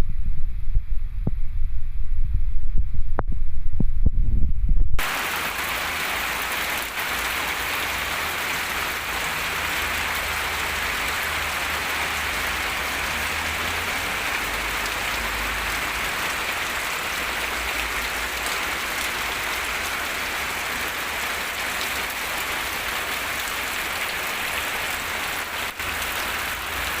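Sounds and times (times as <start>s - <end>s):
steady rain falling on plants: 5.0s - 27.0s.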